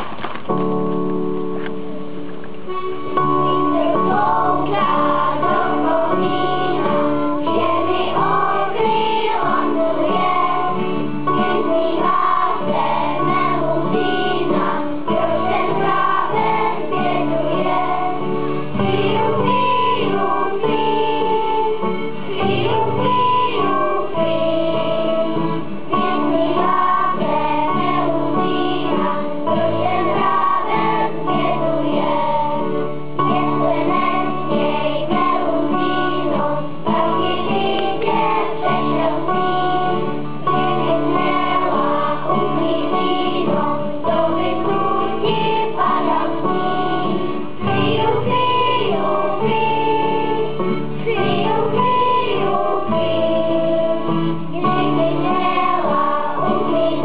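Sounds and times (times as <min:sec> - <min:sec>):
instrumental accompaniment: 0:00.0 - 0:57.0
children's choir singing: 0:02.8 - 0:57.0.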